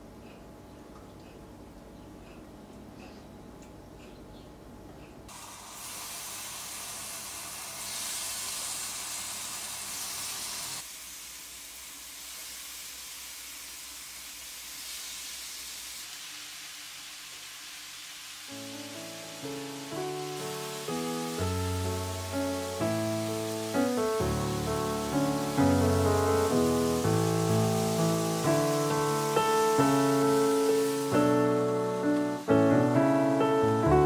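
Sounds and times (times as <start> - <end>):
chicken sizzling on grill pan: 5.3 - 33.9.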